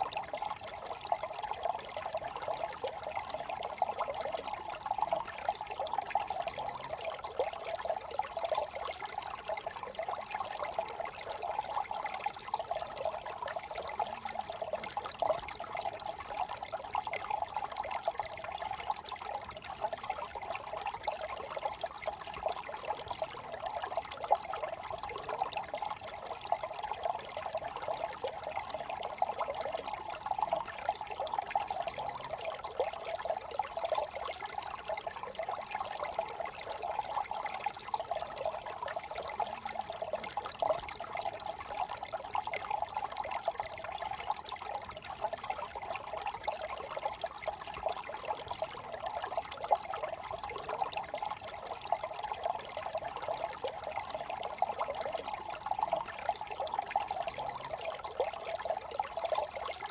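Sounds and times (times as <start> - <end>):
brook trickling: 0.0 - 59.9.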